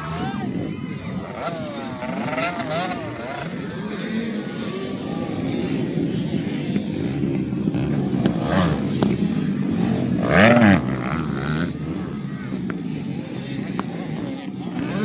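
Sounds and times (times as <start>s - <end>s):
motocross bikes racing: 0.0s - 15.0s.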